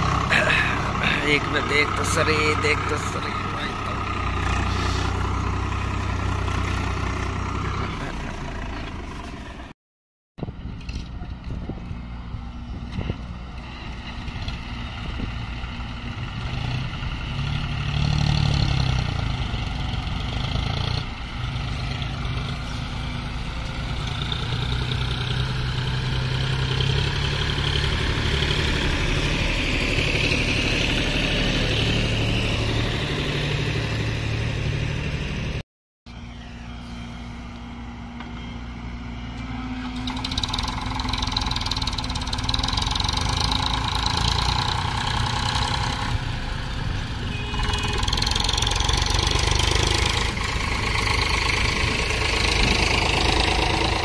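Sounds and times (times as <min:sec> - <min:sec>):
diesel tractor engines under load: 0:00.0 - 0:09.7, 0:10.4 - 0:54.0.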